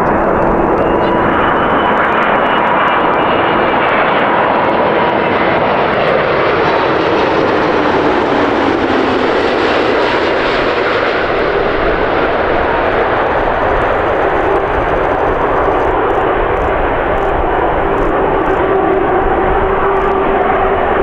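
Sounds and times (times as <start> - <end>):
jet engines passing: 0.0 - 21.0.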